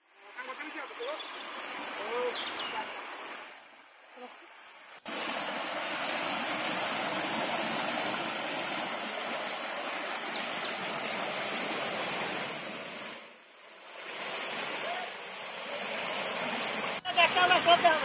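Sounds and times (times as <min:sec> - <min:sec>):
stream water rushing over rocks: 0:00.0 - 0:18.0.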